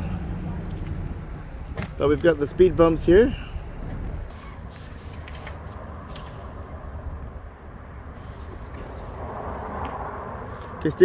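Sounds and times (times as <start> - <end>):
bicycle tyre and wind rumble: 0.0 - 11.0.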